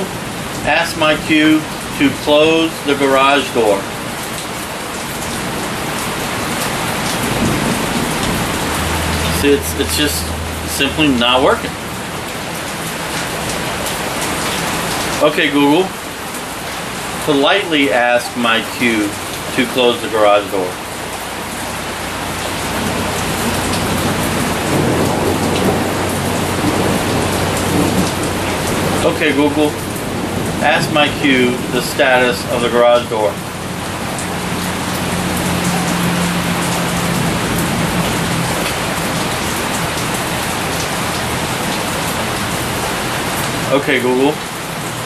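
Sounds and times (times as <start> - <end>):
steady rushing noise: 0.0 - 44.2
rain hissing: 0.0 - 45.0.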